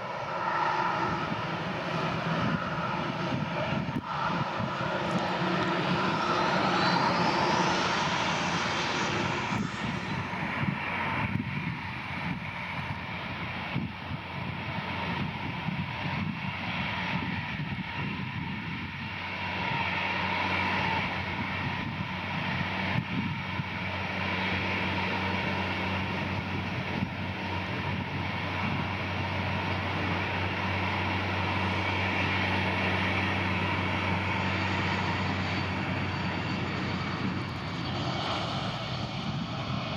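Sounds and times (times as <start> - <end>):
jet engine noise: 0.0 - 39.9
jet engine whine: 0.0 - 39.9.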